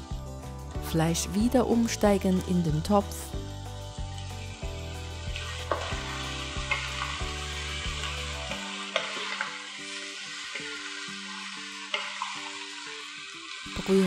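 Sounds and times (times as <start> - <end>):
meat and vegetables sizzling: 0.0 - 14.0.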